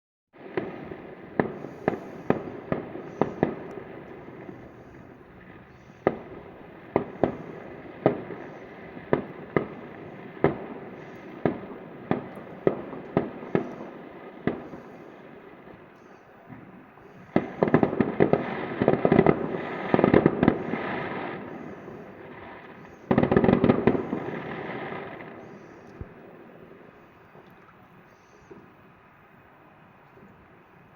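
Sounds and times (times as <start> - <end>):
fireworks bangs: 0.4 - 29.4
fireworks crackling volleys: 0.4 - 30.9.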